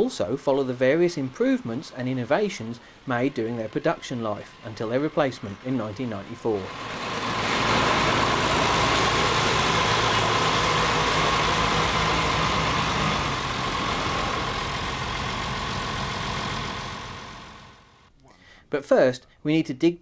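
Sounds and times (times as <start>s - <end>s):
tractor diesel engine running: 0.0s - 18.1s.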